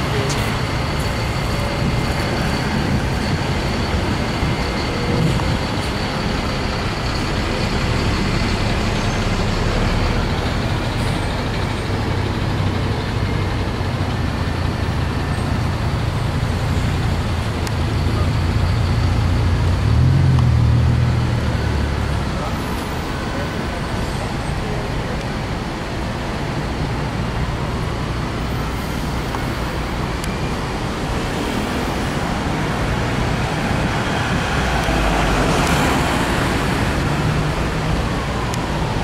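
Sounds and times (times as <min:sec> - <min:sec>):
heavy vehicle engines running: 0:00.0 - 0:39.0
road traffic: 0:00.0 - 0:39.0.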